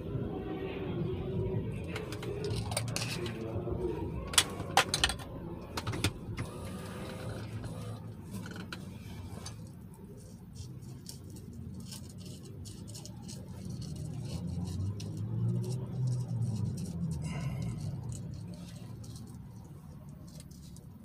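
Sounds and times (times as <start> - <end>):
traffic engine rumble: 0.0 - 21.0
sharp clicks and rattles: 1.8 - 3.5, 4.2 - 21.0.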